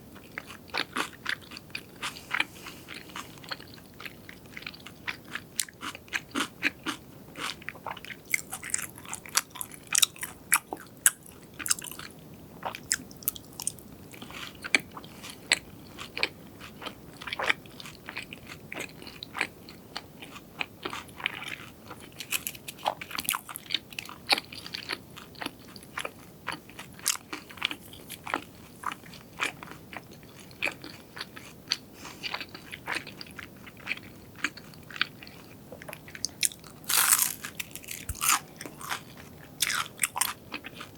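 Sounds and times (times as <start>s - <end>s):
crunchy fried food being chewed: 0.0s - 40.9s.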